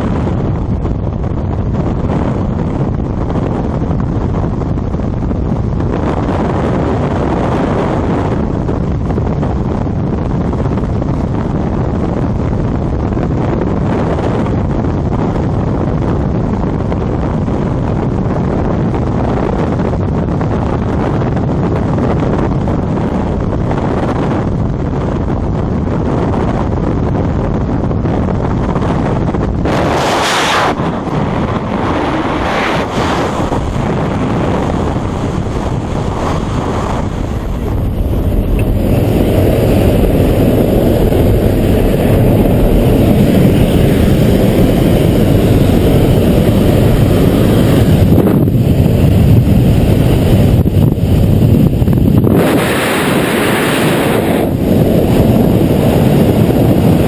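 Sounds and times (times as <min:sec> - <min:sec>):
wind roaring over microphone: 0:00.0 - 0:57.0.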